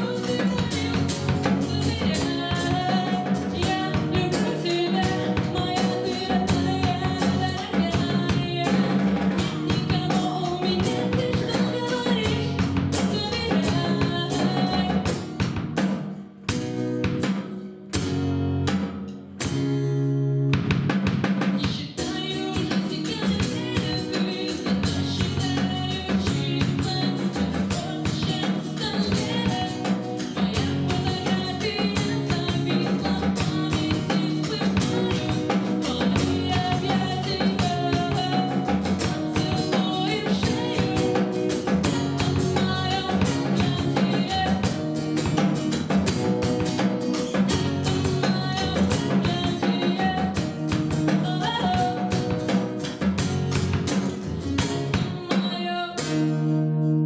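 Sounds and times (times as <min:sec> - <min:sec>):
live guitar and drums song: 0:00.0 - 0:57.0.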